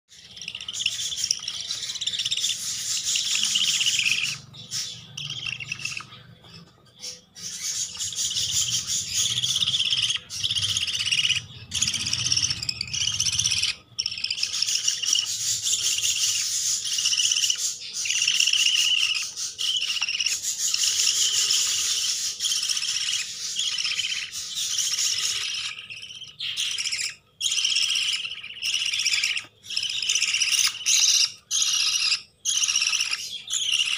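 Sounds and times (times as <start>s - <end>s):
parakeet chicks chirping: 0.1s - 33.9s.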